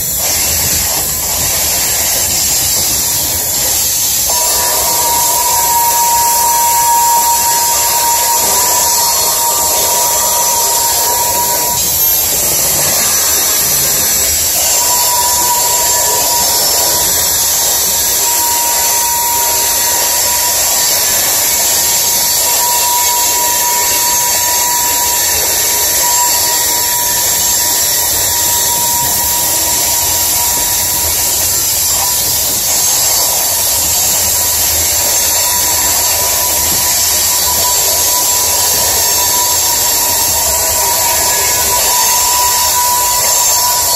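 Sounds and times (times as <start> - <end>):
train wheels squealing on rail: 0.0 - 43.9.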